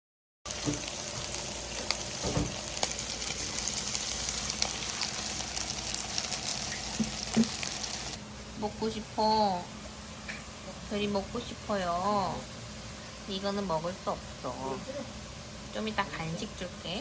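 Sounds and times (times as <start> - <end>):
food sizzling in oil: 0.5 - 17.0.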